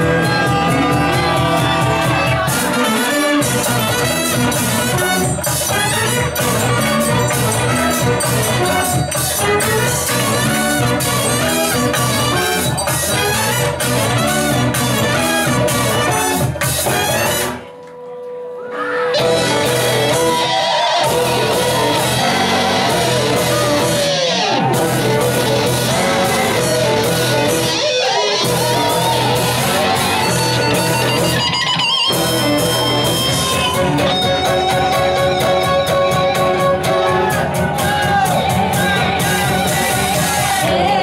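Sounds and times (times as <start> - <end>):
folk ensemble playing: 0.0 - 17.9, 19.2 - 40.8.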